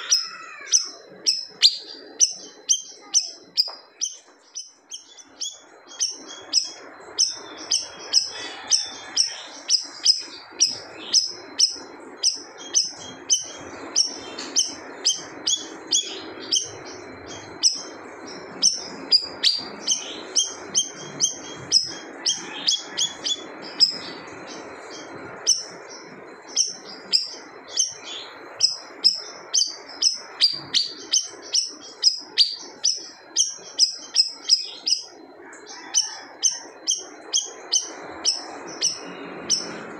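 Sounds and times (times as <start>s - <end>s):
low background noise: 0.0s - 39.9s
songbird chirping: 0.0s - 39.9s.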